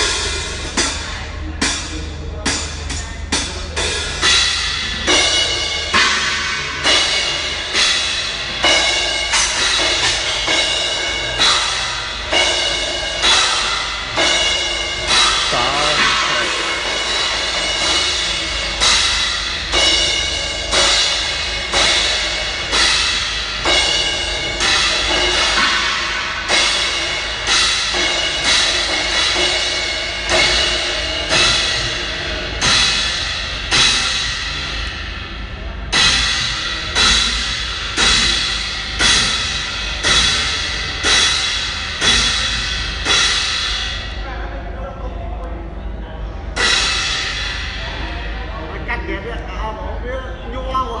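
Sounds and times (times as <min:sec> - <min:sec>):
drum kit slow beat: 0:00.0 - 0:44.7, 0:45.4 - 0:49.5
cymbal wash: 0:00.0 - 0:44.8, 0:45.4 - 0:48.7.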